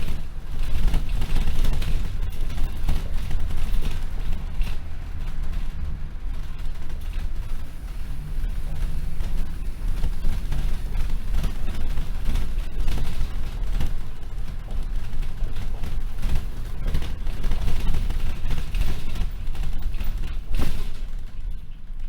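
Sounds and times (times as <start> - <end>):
bus body rattling: 0.0 - 22.0
bus engine and road rumble: 0.0 - 22.0
bus jolt: 0.0 - 22.0.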